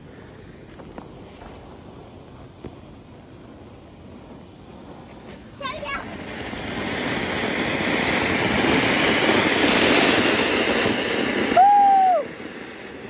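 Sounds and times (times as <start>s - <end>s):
firework fountain hissing: 0.0s - 13.0s.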